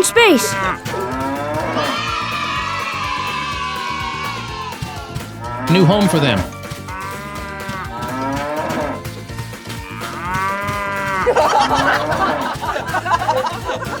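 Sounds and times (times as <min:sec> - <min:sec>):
cows mooing: 0:00.0 - 0:12.6
quiet background music: 0:00.0 - 0:14.0.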